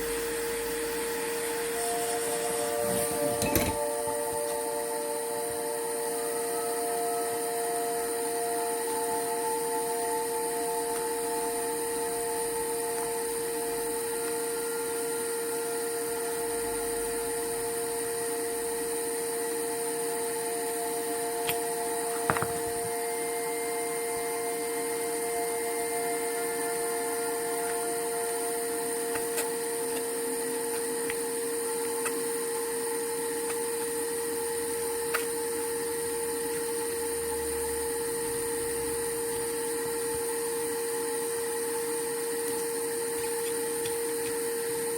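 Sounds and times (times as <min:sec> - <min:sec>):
fan whirring hum: 0:00.0 - 0:44.9.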